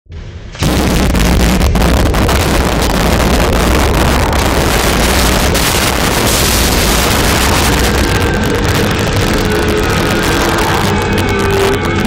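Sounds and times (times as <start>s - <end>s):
deep low rumble: 0.1s - 12.0s
wall bursting and crumbling: 0.6s - 12.0s.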